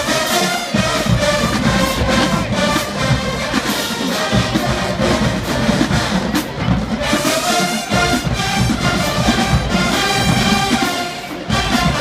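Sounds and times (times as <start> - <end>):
marching band brass and drums: 0.0 - 12.0.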